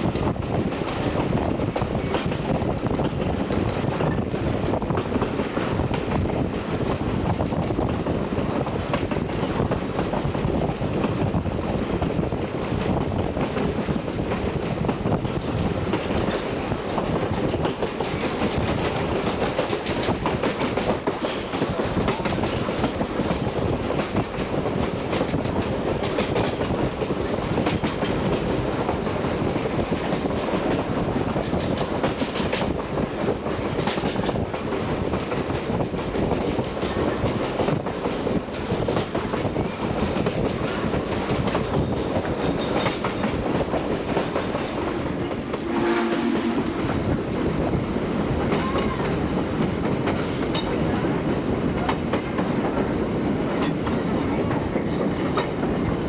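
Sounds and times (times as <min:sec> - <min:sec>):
train wheels clicking on rails: 0:00.0 - 0:56.0.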